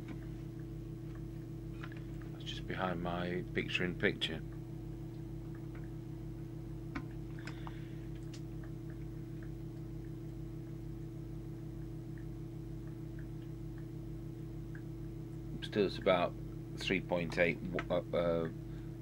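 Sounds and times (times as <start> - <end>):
mains hum: 0.0 - 19.0.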